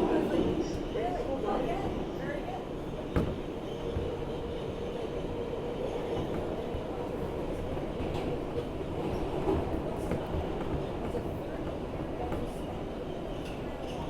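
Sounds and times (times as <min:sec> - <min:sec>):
train wheels rumbling on rail: 0:01.6 - 0:14.0.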